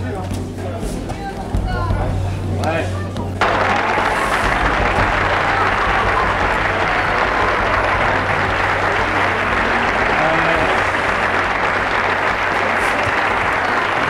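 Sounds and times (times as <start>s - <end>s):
faint voices: 0.0s - 14.0s
crowd clapping and chatter: 2.6s - 14.0s.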